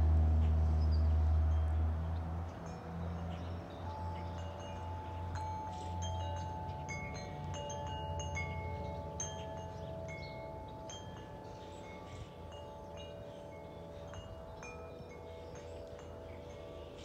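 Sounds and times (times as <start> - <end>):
wind chimes ringing: 0.8 - 17.0.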